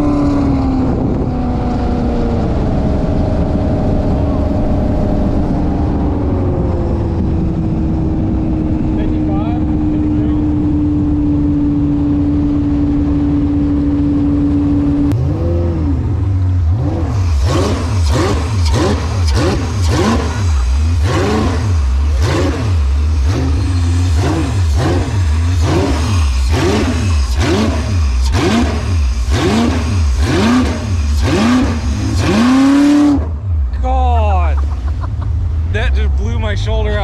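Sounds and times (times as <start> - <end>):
boat engine revving: 0.0 - 37.0.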